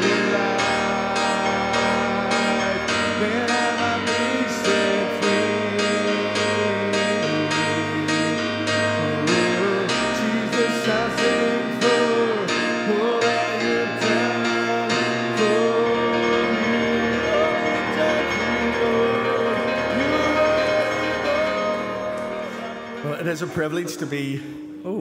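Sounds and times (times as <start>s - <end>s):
voices singing: 0.0s - 23.4s
piano and keyboard: 0.0s - 25.0s.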